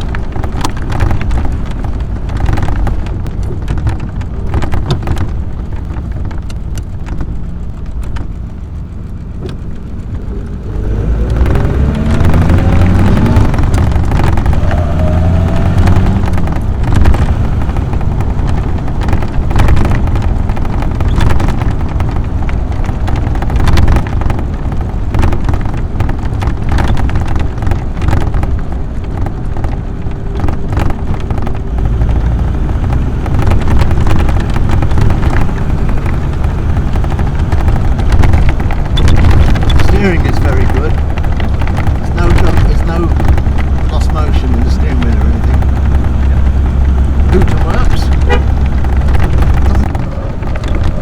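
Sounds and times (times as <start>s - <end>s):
car engine pulling: 0.0s - 51.0s
rattles and knocks: 0.0s - 51.0s
wind and road noise: 0.0s - 51.0s.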